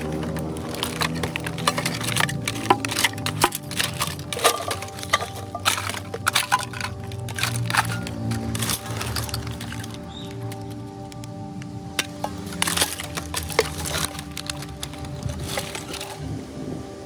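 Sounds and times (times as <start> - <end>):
hands rummaging through plastic junk: 0.0 - 16.9
background music: 0.0 - 17.0.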